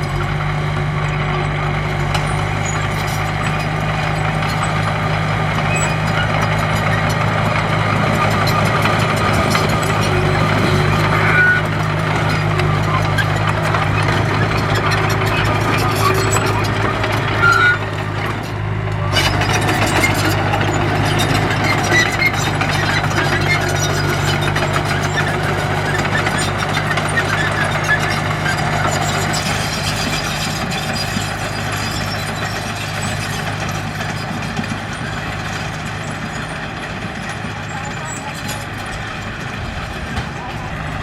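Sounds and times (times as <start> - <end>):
heavy machine diesel engine: 0.0 - 41.0.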